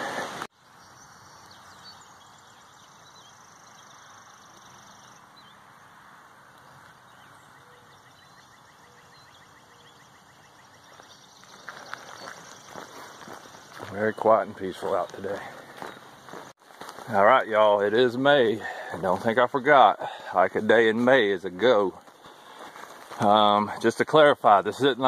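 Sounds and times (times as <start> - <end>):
distant birds chirping: 0.0 - 25.0
faint outdoor hush: 1.5 - 25.0.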